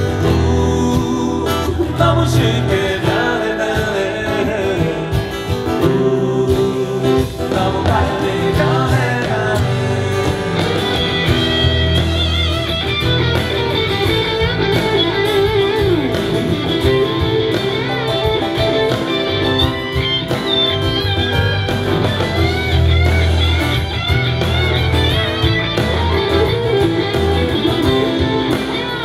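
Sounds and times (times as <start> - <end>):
drums: 0.0 - 29.0
electric guitar lead with bending notes: 0.0 - 29.0
keyboard: 0.0 - 29.0.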